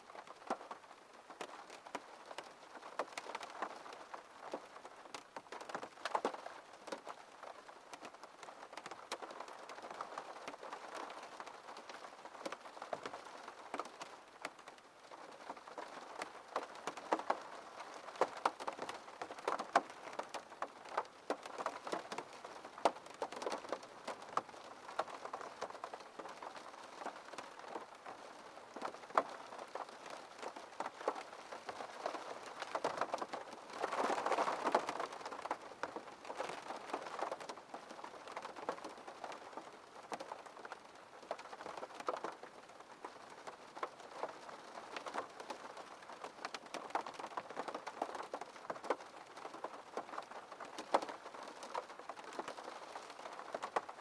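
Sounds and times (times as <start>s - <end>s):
rain falling: 0.0s - 54.0s
raindrops tapping on glass: 1.4s - 54.0s.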